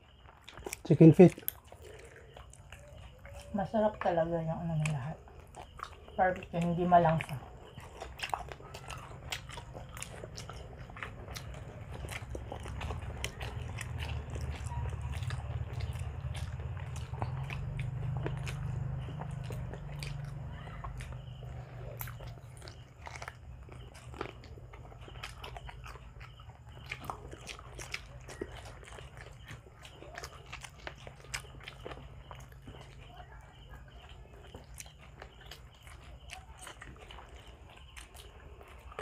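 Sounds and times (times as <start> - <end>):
people chewing and smacking: 0.0 - 39.0.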